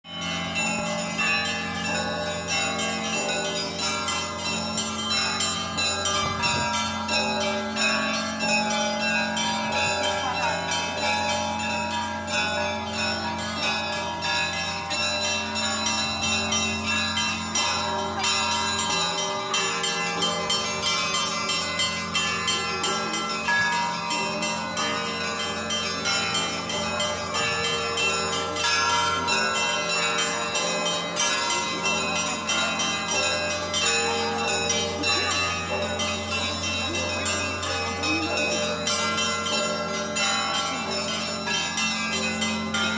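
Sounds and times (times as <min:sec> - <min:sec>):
small bells struck rapidly: 0:00.1 - 0:42.9.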